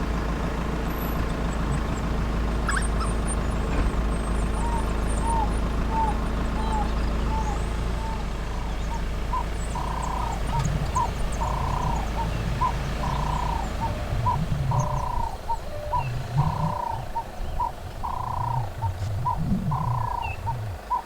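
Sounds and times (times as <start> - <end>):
faint bird chirps: 0.9 - 21.0
dove cooing: 1.4 - 21.0.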